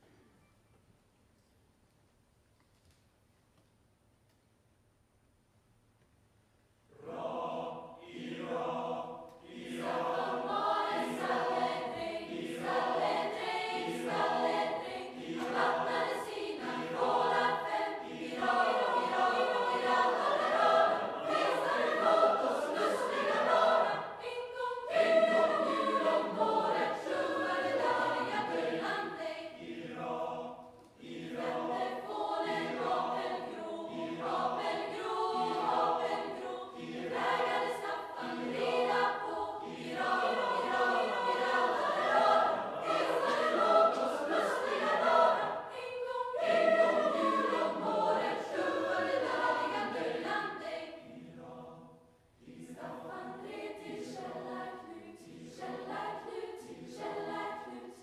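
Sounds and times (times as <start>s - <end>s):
choir singing: 6.9s - 58.0s.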